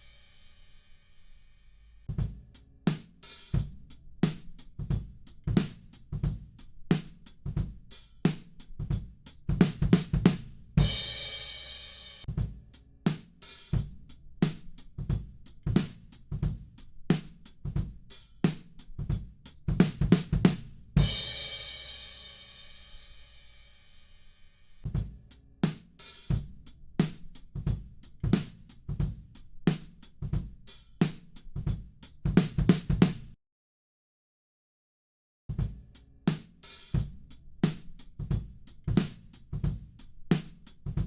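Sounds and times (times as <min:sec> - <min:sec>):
drum kit groove: 0:00.0 - 0:00.8, 0:02.0 - 0:23.8, 0:24.8 - 0:33.4, 0:35.5 - 0:41.0.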